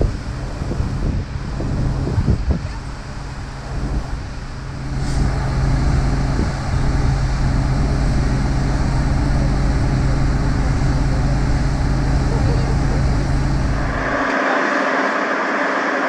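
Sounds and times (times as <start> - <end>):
wind on microphone: 0.0 - 14.2
low engine drone: 0.0 - 16.0.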